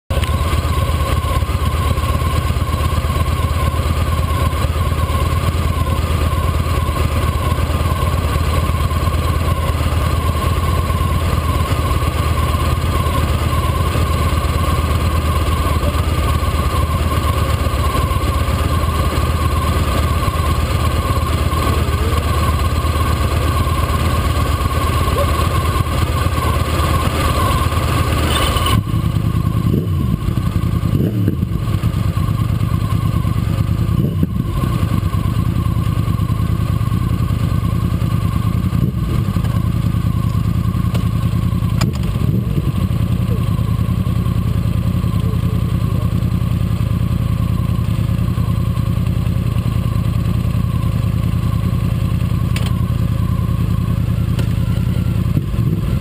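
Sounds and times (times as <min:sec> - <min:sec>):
motorcycle engine idling: 0:00.1 - 0:56.0.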